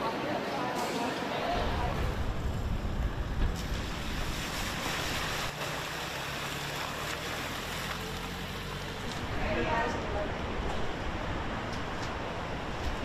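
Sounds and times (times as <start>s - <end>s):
tyres splashing through water: 1.7s - 13.0s.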